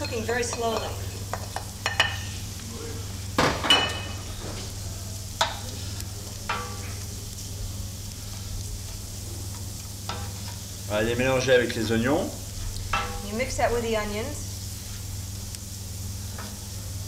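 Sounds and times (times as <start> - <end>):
cabbage sizzling in butter: 0.0 - 17.0
steady low hum: 0.0 - 17.0.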